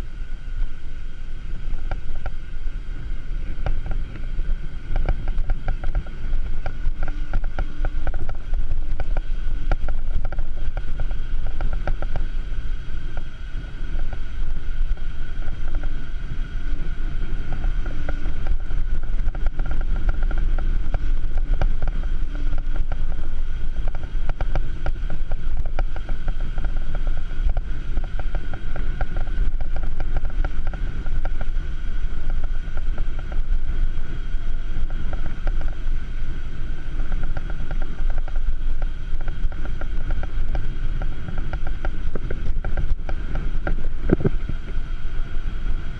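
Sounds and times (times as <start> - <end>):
bicycle tyre rumble on asphalt: 0.0 - 45.9
steady hum: 0.0 - 45.9
wind buffeting microphone: 0.0 - 45.9
light rattling ticks: 1.5 - 45.9.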